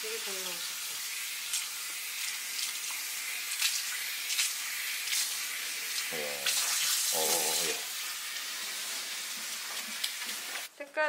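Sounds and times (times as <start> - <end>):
water spraying onto wet hair: 0.0 - 10.7.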